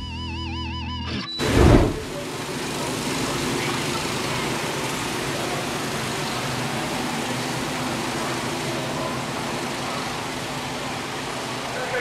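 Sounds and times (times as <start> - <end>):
rushing hiss: 1.4 - 12.0.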